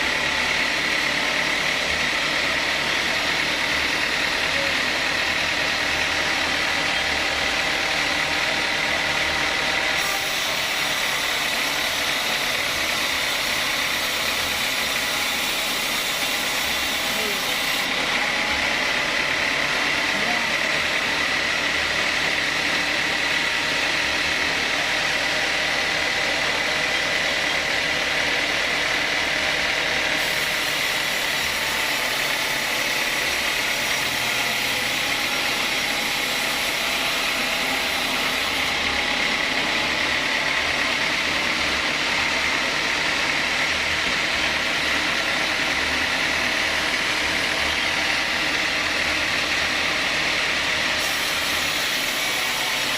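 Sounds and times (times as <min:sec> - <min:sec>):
sawmill saw whining: 0:00.0 - 0:52.9.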